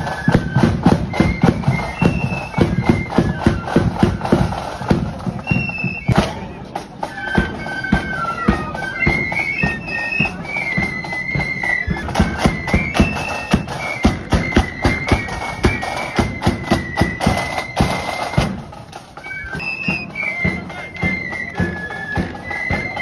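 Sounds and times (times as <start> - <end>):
flutes playing melody: 0.0 - 23.0
steady drum beat: 0.0 - 23.0.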